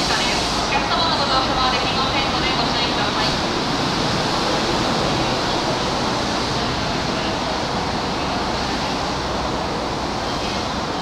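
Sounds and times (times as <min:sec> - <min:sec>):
railway rumble and hiss: 0:00.0 - 0:11.0.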